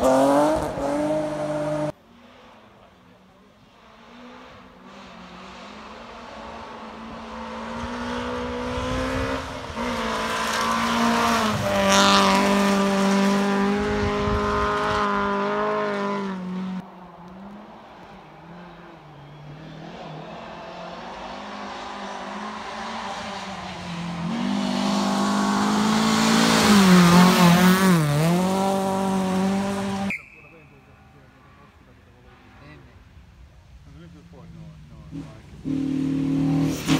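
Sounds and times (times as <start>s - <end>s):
rally car engines at high revs: 0.0s - 30.4s, 33.9s - 36.9s.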